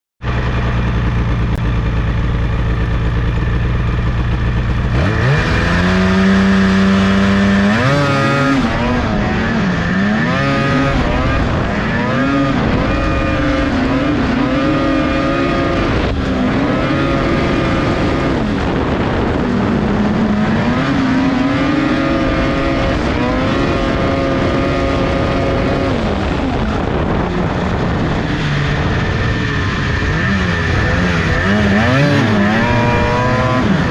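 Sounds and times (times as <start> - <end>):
snowmobile engine revving: 0.3 - 33.9.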